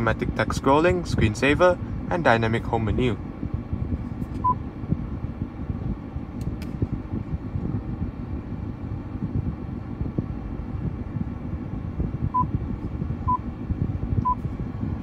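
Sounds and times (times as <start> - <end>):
low car cabin rumble: 0.0 - 15.0.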